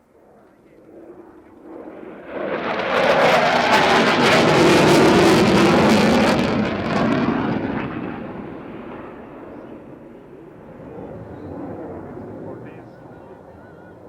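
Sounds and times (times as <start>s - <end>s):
jet passing with a crackle: 0.0s - 14.0s.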